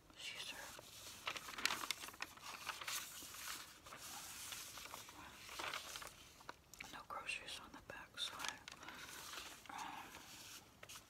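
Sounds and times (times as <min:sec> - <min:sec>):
paper rustling and crinkling: 0:00.5 - 0:06.8, 0:08.2 - 0:11.0.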